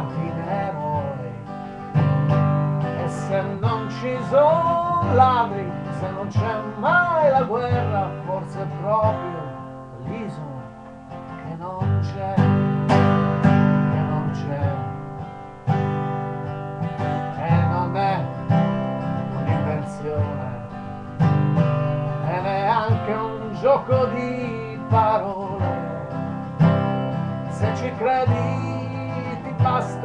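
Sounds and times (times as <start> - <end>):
guitar strumming and picking: 0.0 - 30.0.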